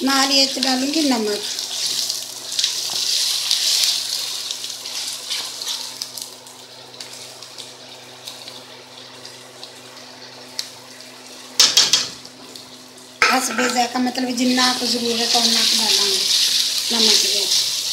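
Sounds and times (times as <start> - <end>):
onions sizzling in hot oil: 0.0 - 17.9.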